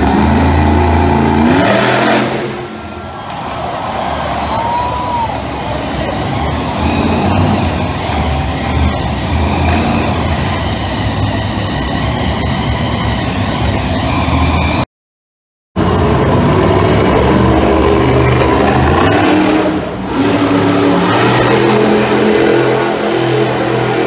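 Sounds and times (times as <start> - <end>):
truck engine running hard: 0.0 - 14.8, 15.8 - 24.0.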